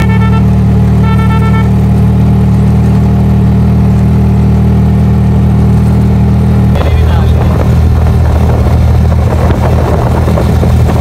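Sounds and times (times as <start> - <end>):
motorcycle rickshaw engine running: 0.0 - 11.0.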